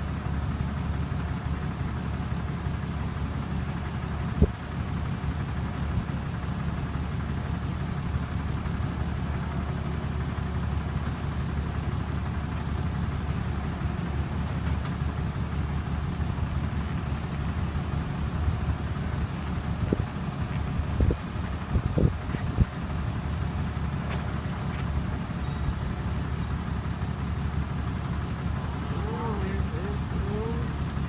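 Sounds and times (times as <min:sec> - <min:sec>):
machine running with low rumble: 0:00.0 - 0:31.0.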